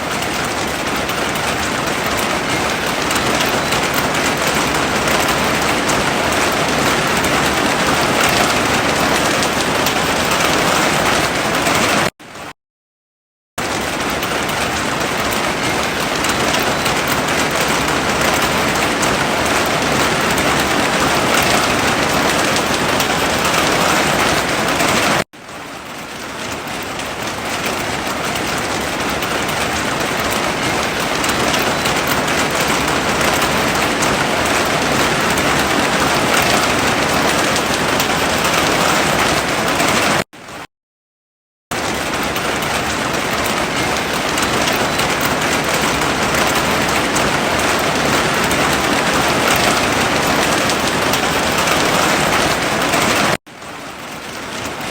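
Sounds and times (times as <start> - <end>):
heavy rain pouring: 0.0 - 12.5, 13.6 - 40.6, 41.7 - 54.9.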